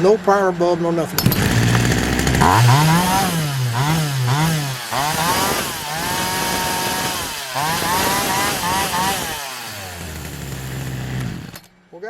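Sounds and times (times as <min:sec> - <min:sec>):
chainsaw engine revving: 0:00.0 - 0:11.7.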